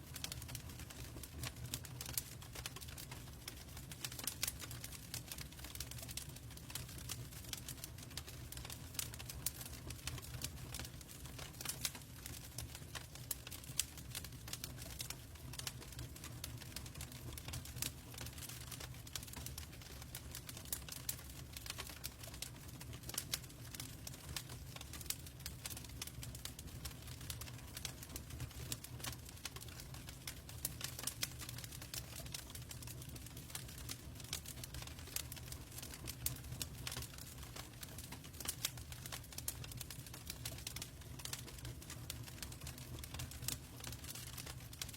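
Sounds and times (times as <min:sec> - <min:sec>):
log fire crackling: 0:00.1 - 0:44.9.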